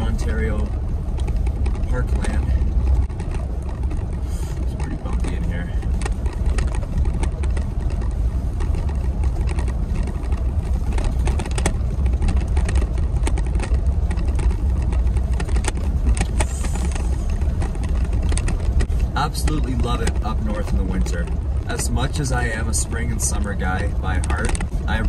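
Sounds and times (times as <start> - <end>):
light knocks and rattles: 0.0 - 25.0
pickup truck engine and road noise: 0.0 - 25.0.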